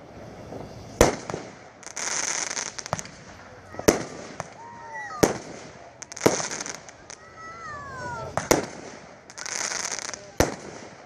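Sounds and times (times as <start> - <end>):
falling firework whistle: 0.0 - 10.9
firework bangs: 0.0 - 11.0
firework crackling hiss: 0.0 - 11.0.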